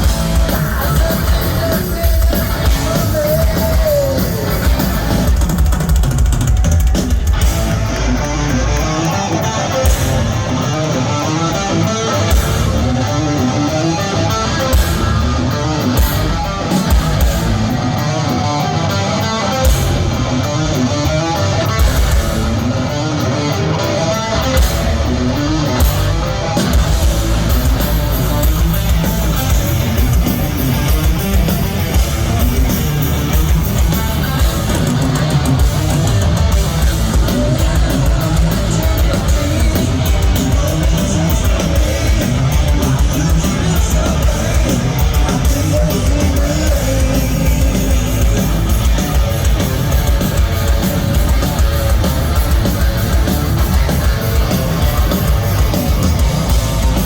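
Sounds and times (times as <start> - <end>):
drums: 0.0 - 57.0
electric guitar lead: 0.0 - 57.0
heavy metal band playing live: 0.0 - 57.0.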